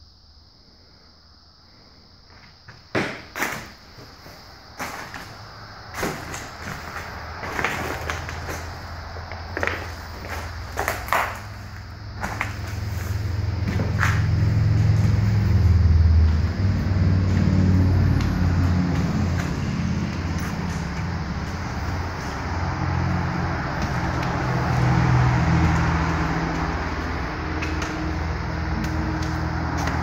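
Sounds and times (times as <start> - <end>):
tyre noise: 2.3 - 30.0
vehicle engine hum: 4.5 - 30.0.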